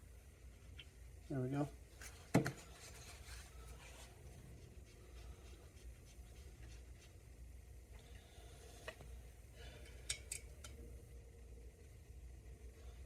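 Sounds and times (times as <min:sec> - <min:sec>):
faint scratching of small parts: 0:00.4 - 0:10.9.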